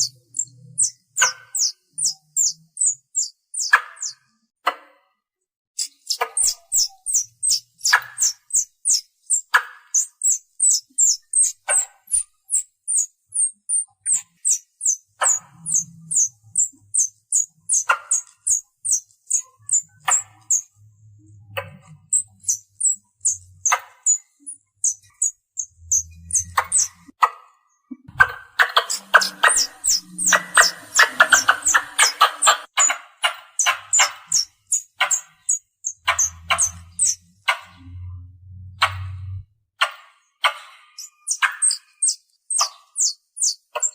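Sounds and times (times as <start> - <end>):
squirrel chirping: 0.0 - 4.2, 5.8 - 20.9, 21.6 - 27.1, 28.1 - 37.9, 40.4 - 43.9.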